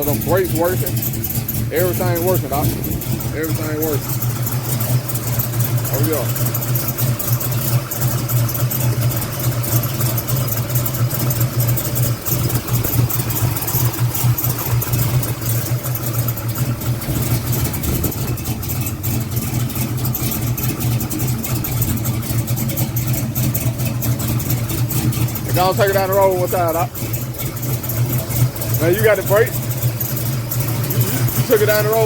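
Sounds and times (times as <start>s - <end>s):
engine idling with choppy lope: 0.0s - 32.0s.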